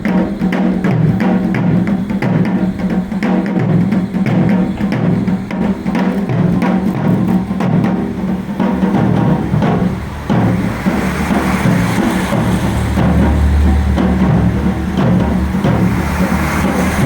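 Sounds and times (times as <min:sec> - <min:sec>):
taiko drums playing rapid rhythm: 0:00.0 - 0:17.0.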